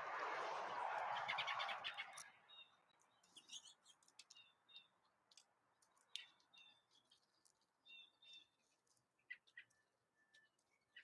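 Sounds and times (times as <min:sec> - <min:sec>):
songbirds chirping: 0:01.0 - 0:11.0.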